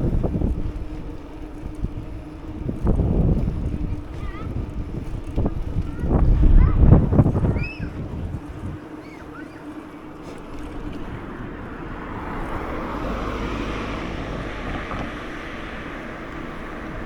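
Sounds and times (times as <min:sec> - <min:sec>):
faint engine hum: 0:00.0 - 0:17.0
scooter road noise: 0:00.0 - 0:17.0
wind buffeting microphone: 0:00.0 - 0:17.0.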